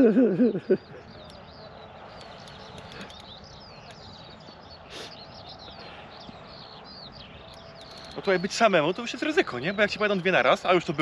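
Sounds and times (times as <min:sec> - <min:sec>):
songbirds chirping and singing: 0:00.0 - 0:11.0
steady outdoor hiss: 0:00.0 - 0:11.0.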